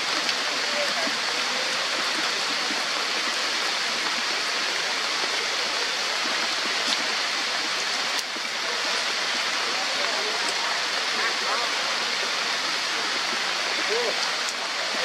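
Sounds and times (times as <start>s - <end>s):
heavy rain on foliage: 0.0s - 15.0s.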